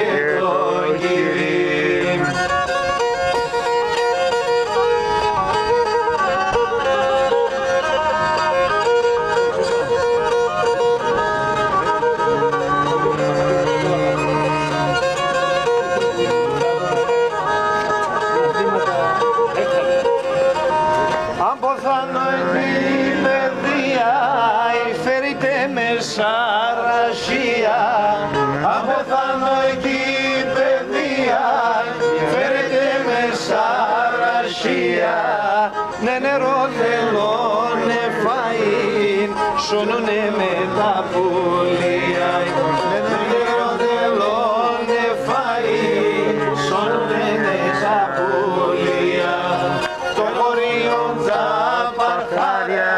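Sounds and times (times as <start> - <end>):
bowed string folk melody: 0.0 - 52.9.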